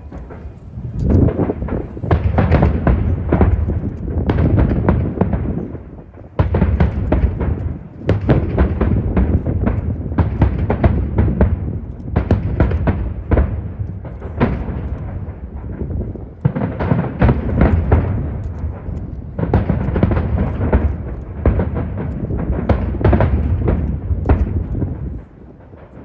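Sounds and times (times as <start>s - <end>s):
deep rumble: 0.0s - 26.0s
fireworks bangs: 0.0s - 26.0s.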